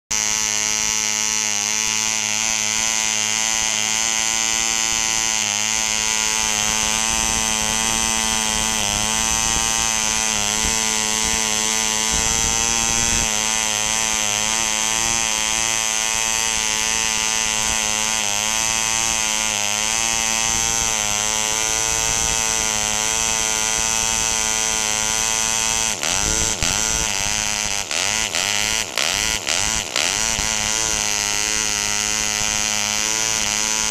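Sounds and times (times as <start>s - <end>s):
model aircraft engine buzzing: 0.1s - 33.9s.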